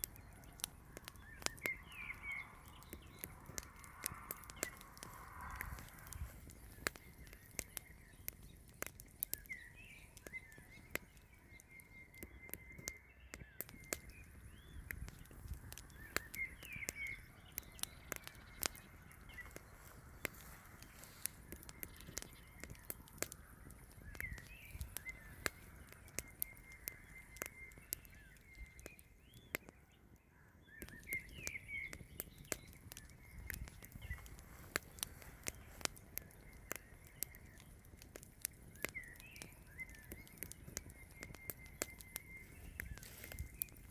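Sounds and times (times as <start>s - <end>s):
sharp clicks and crackles: 0.0s - 43.9s
songbird chirping: 0.0s - 43.9s.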